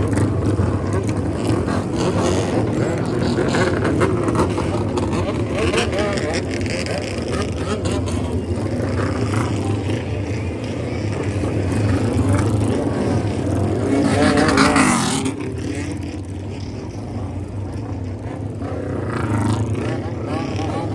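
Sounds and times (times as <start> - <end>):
motorcycle engine idling and revving: 0.0 - 20.9.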